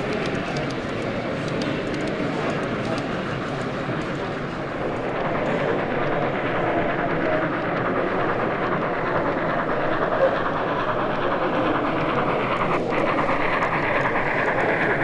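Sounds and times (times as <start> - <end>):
exhibition hall hubbub: 0.0 - 15.0
model train running: 0.0 - 15.0.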